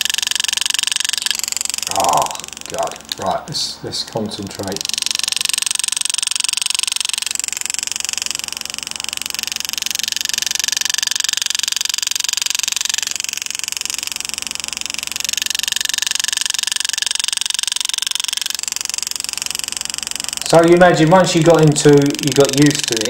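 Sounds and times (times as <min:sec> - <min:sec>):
pneumatic engraving tool buzzing: 0:00.0 - 0:23.0.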